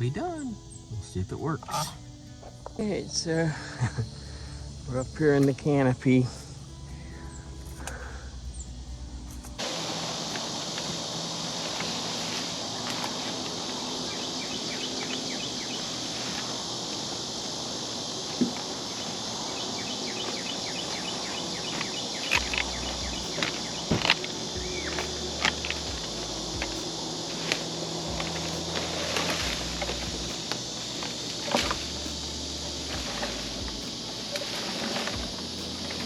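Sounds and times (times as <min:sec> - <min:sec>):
high insect drone: 0:00.0 - 0:36.0.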